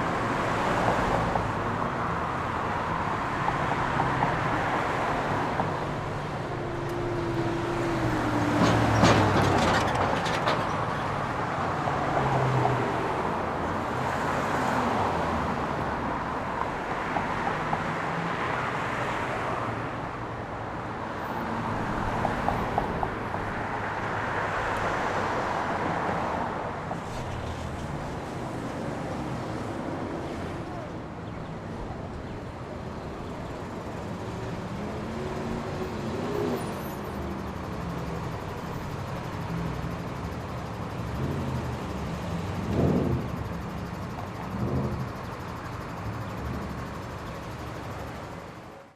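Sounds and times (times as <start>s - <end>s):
traffic noise from cars and buses: 0.0s - 48.9s.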